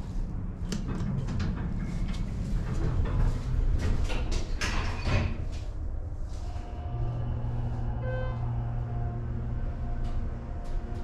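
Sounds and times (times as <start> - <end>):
low rumble of elevator car: 0.0 - 11.0.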